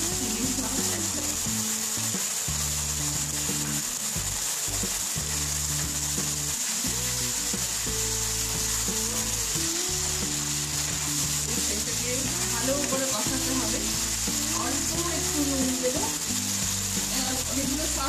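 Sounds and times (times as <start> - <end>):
soft background music: 0.0 - 18.0
vegetables sizzling in a frying pan: 0.0 - 18.0.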